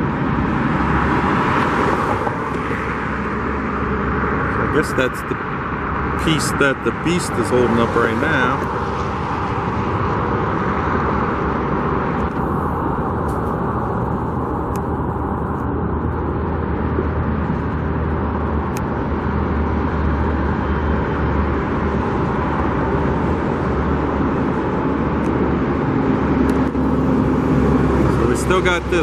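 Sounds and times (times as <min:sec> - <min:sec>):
low traffic rumble: 0:00.0 - 0:29.0
road traffic rushing past: 0:00.0 - 0:29.0.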